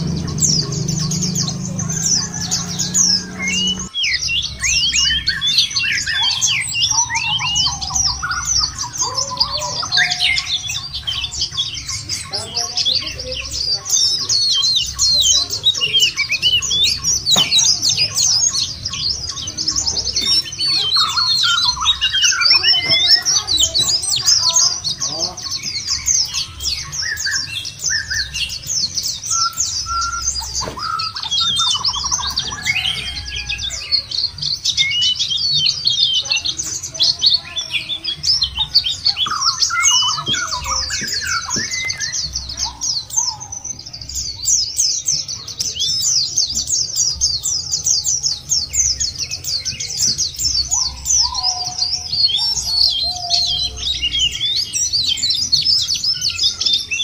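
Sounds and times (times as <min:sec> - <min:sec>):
birds twittering: 0:00.0 - 0:57.0
whistled bird notes: 0:00.0 - 0:57.0.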